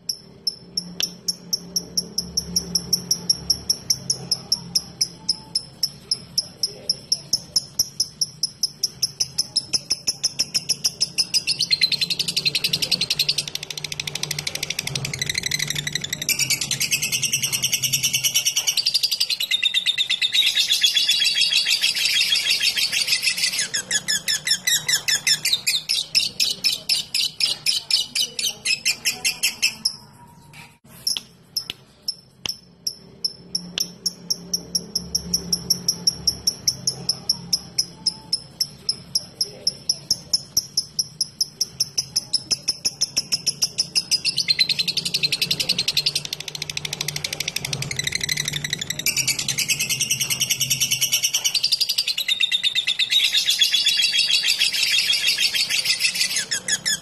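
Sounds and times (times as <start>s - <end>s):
lovebird high chattering: 0.0s - 57.0s.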